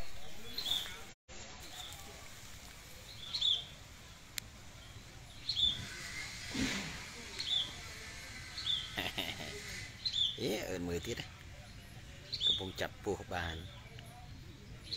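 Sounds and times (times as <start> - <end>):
faint outdoor background noise: 0.0 - 14.9.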